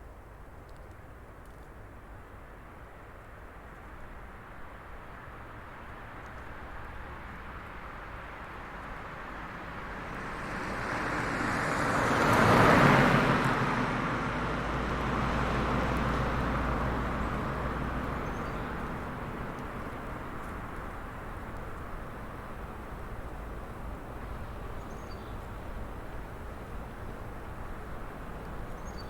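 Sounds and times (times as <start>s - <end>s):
car engine and tyre noise: 3.6s - 29.0s.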